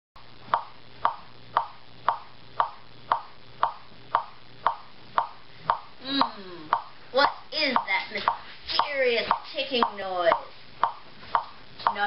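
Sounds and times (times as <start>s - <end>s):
faint low hum: 0.2s - 12.0s
steady ticking: 0.5s - 12.0s.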